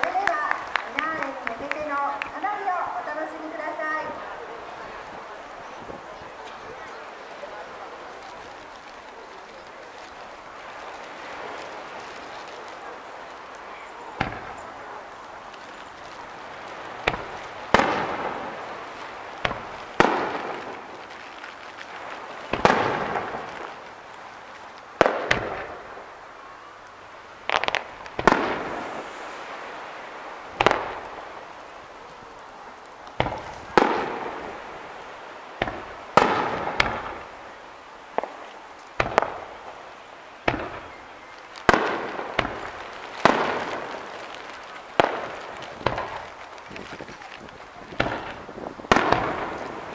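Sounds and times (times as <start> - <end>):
echo of firework bangs: 0.0 - 26.6, 27.2 - 49.9
firework shells bursting: 0.0 - 49.9.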